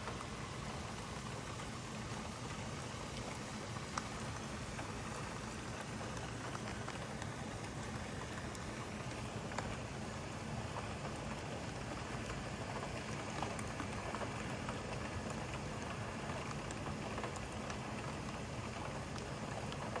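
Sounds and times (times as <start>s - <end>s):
raindrops ticking: 0.0s - 20.0s
steady rain: 0.0s - 20.0s.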